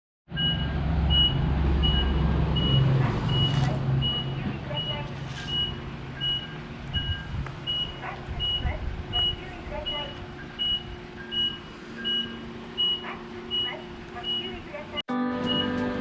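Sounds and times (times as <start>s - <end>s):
truck engine running: 0.3s - 16.0s
truck reversing alarm beeping: 0.3s - 16.0s.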